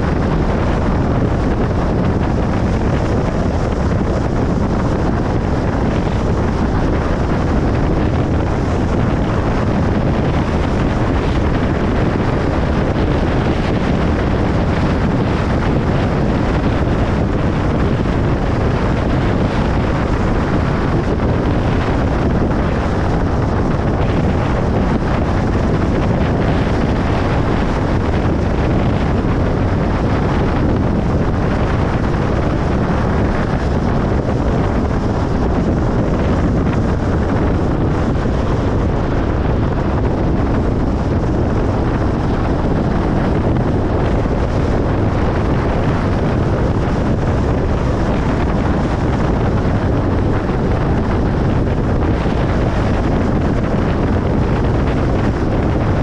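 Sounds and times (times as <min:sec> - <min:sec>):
car road noise on highway: 0:00.0 - 0:56.0.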